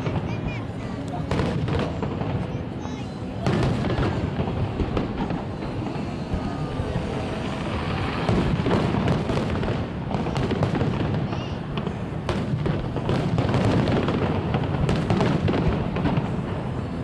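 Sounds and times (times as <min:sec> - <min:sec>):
continuous low rumble: 0:00.0 - 0:17.0
fireworks bangs and crackling: 0:00.0 - 0:17.0.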